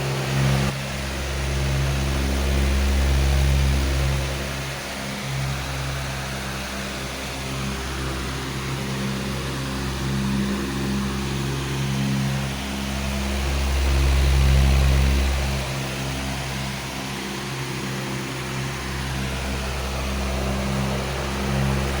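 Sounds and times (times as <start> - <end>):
electric fan motor hum: 0.0 - 22.0.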